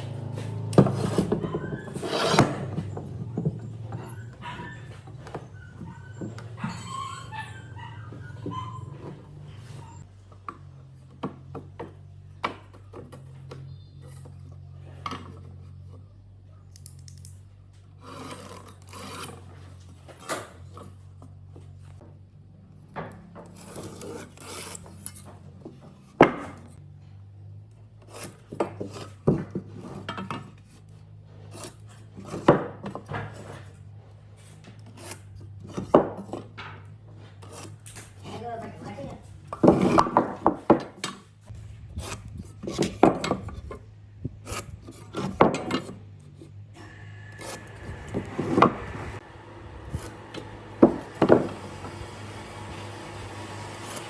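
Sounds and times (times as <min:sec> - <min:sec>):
hand tool scraping wood: 0:00.0 - 0:10.1, 0:17.9 - 0:22.0, 0:23.4 - 0:27.2, 0:28.0 - 0:54.0.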